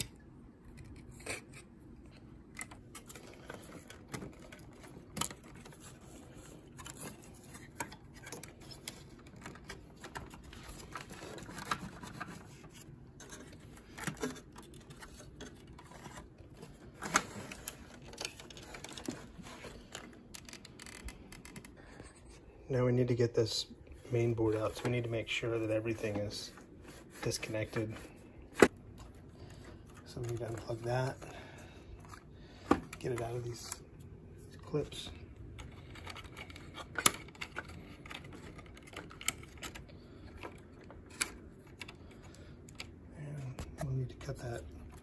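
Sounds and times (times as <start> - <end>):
wires and plastic clicking and rubbing: 0.0 - 45.0.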